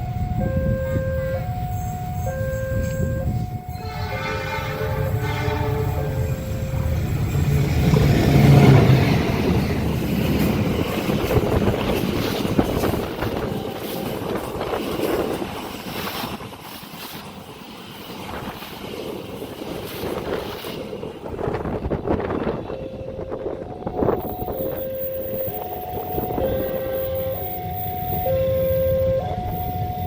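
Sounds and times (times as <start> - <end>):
train wheels rushing on rails: 0.0 - 30.0.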